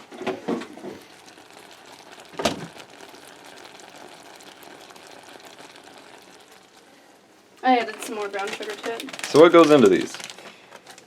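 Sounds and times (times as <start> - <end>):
apples sizzling in a pan: 0.0 - 10.2.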